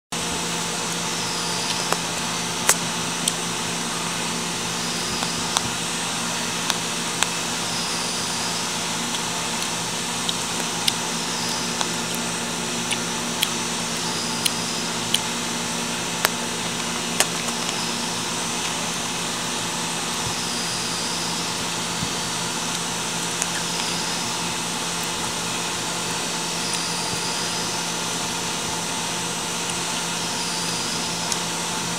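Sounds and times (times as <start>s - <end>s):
machine hum: 0.1s - 31.9s.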